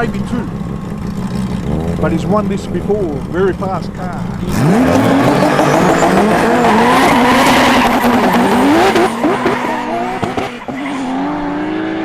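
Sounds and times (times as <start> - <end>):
drag racing cars accelerating: 0.0 - 12.0.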